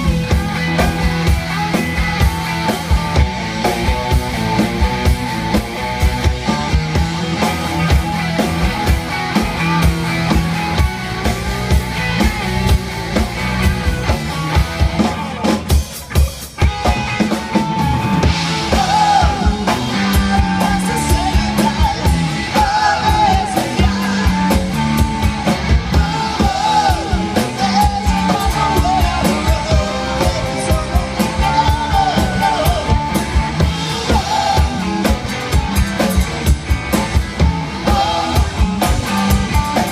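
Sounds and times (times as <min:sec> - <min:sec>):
sung lead vocal: 0:00.0 - 0:12.7, 0:13.4 - 0:39.9
live rock band playing: 0:00.0 - 0:39.9.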